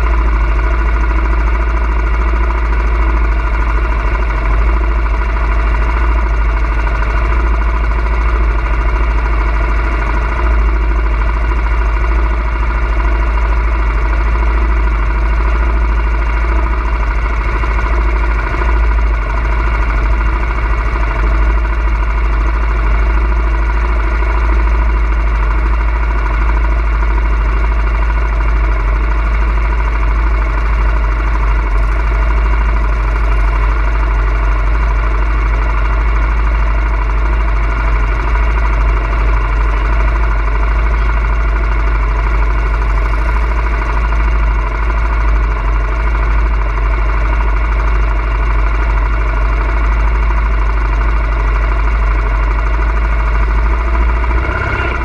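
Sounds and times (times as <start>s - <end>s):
atv engine rumbling: 0.0s - 55.0s.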